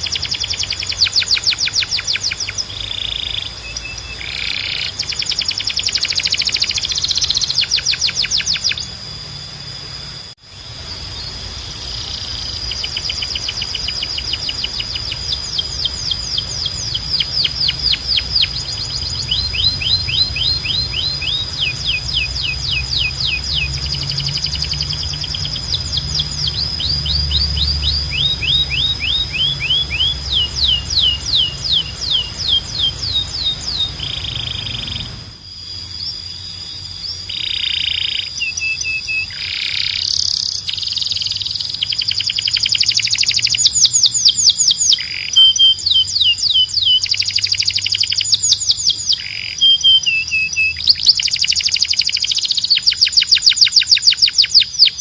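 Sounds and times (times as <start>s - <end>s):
canary singing trills: 0.0s - 55.0s
low background hum: 0.0s - 55.0s.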